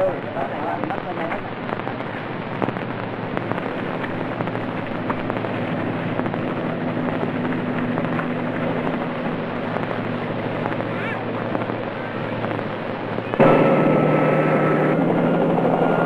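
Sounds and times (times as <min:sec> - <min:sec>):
crackling film soundtrack noise: 0:00.0 - 0:16.0
low multi-tone hum: 0:00.0 - 0:16.0.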